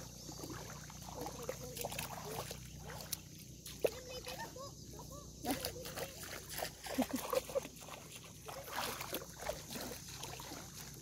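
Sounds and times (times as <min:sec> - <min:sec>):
wading through shallow water: 0:00.0 - 0:11.0.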